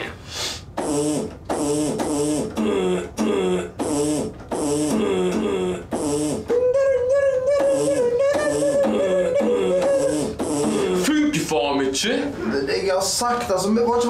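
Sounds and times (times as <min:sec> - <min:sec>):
beatboxing: 0:00.0 - 0:11.5.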